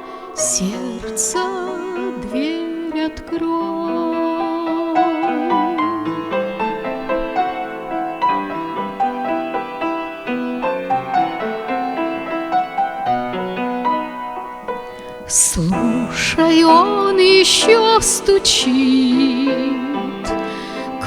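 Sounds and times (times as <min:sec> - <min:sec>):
keyboard hymn melody over chords: 0:00.0 - 0:21.0.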